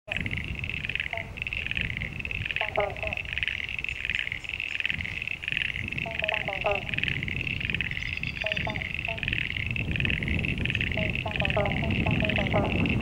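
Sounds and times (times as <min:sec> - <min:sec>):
frog plucked low notes: 0:00.1 - 0:13.0
frogs calling in pulsed trills: 0:00.1 - 0:13.0.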